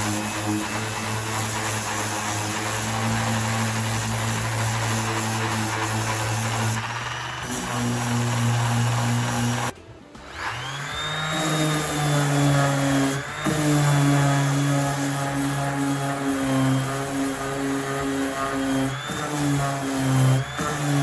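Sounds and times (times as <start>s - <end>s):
power tool motor whine: 0.0s - 21.0s.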